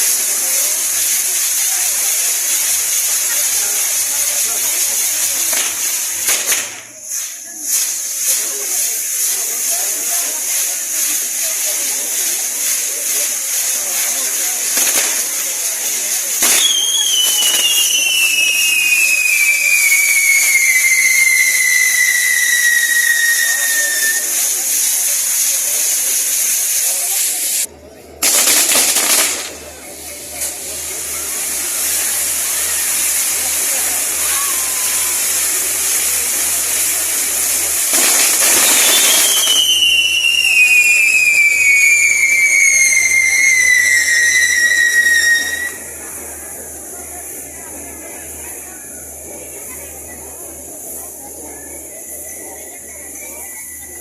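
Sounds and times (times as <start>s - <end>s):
falling firework whistle: 0.0s - 47.1s, 50.6s - 54.0s
hiss of spraying sparks: 0.0s - 54.0s.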